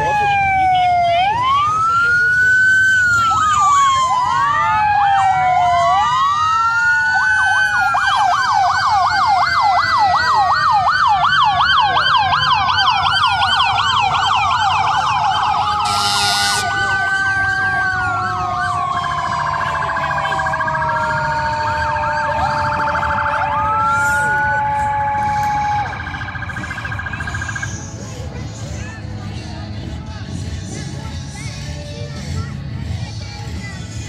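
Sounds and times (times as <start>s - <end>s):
siren yelp: 0.0s - 28.1s
sirens wailing: 0.0s - 31.4s.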